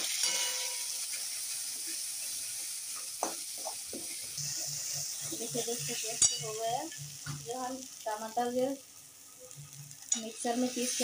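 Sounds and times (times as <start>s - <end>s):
masala sizzling in hot oil: 0.0s - 11.0s.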